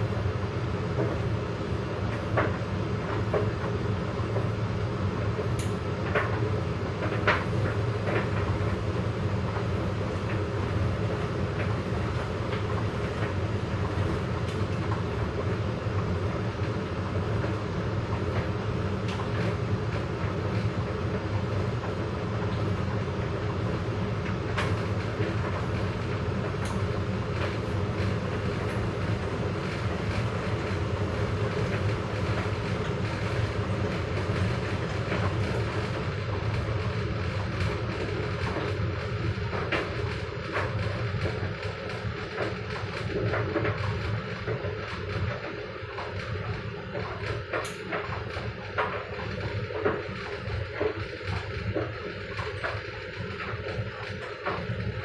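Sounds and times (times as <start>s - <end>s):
washer-dryers rumbling: 0.0s - 55.0s.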